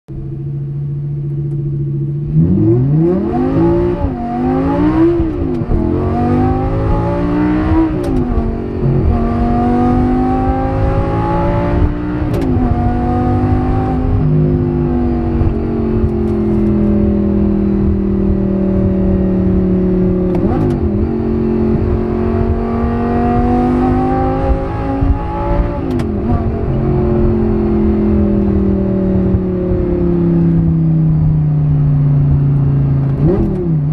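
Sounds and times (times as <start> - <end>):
car engine revving: 0.1 - 33.9.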